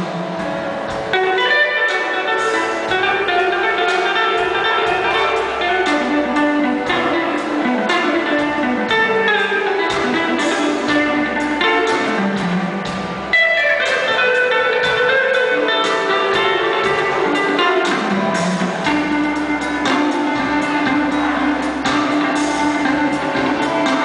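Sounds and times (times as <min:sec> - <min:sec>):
jazz guitar solo: 0:00.0 - 0:24.0
keyboard backing: 0:00.0 - 0:24.0.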